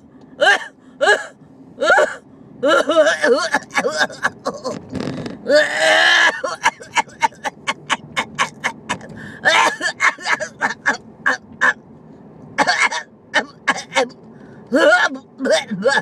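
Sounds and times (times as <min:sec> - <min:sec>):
woman coughing: 0:00.4 - 0:04.8, 0:05.6 - 0:11.8, 0:12.6 - 0:14.1, 0:14.8 - 0:16.0.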